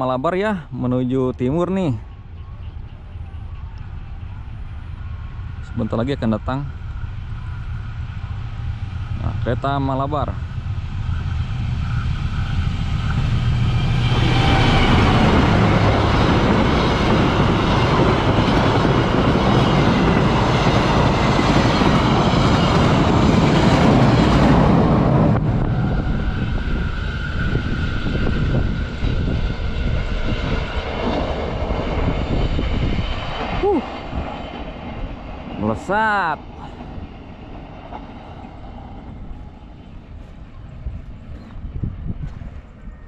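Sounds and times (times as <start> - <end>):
train passing at speed: 0.0 - 43.0
low rumble: 1.1 - 43.0.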